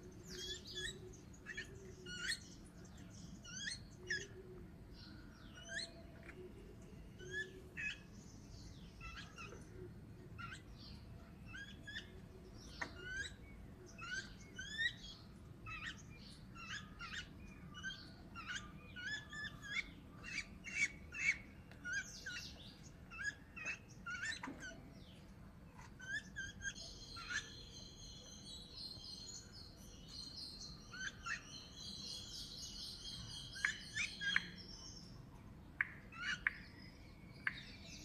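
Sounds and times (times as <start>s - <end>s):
birds chirping and chattering: 0.0s - 38.0s.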